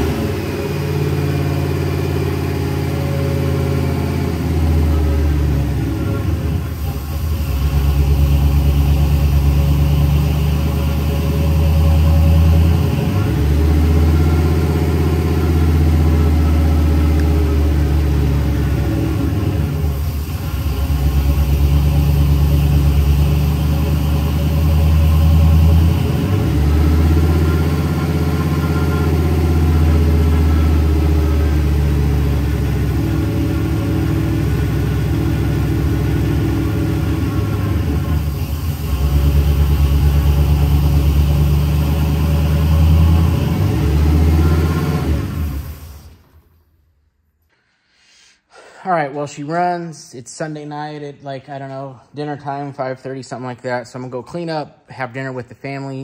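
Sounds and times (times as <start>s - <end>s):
car engine fast idle: 0.0s - 46.5s.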